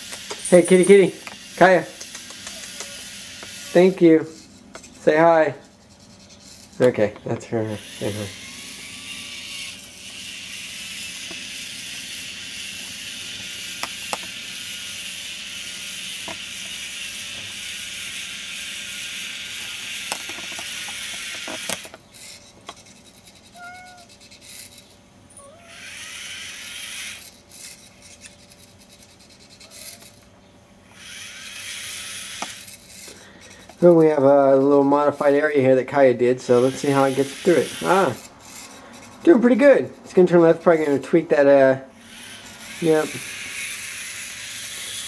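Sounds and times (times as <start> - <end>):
robot motors and tracks whirring: 0.0 - 5.4, 6.0 - 35.7, 36.5 - 45.0.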